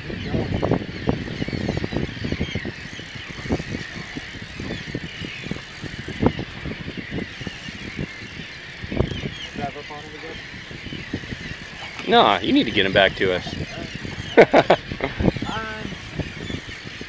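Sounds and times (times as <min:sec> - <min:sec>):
fishing reel clicking and rattling: 0:01.2 - 0:14.2, 0:15.4 - 0:17.0.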